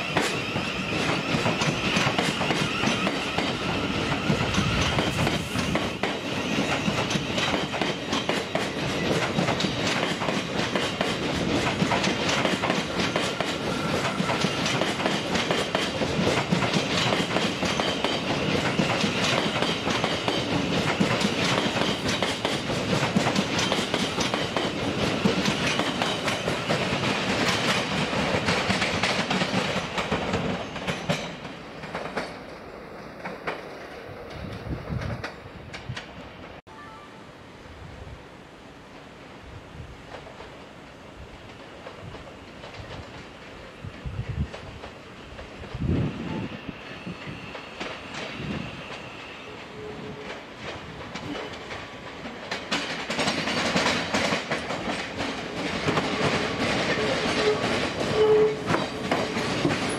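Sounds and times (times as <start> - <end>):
train rail running noise: 0.0 - 59.9.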